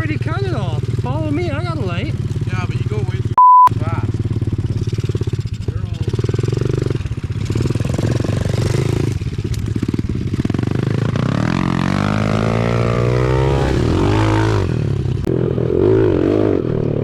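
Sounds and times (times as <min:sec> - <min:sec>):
small motorbike engines revving: 0:00.0 - 0:17.0.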